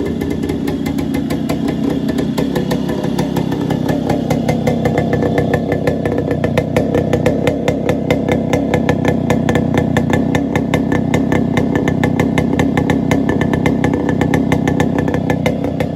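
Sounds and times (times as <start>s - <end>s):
two-stroke engine open exhaust crackle: 0.0s - 15.9s.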